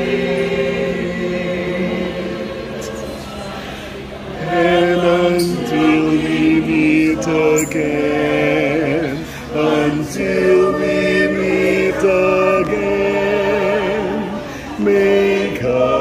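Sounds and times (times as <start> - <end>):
group singing together: 0.0 - 16.0.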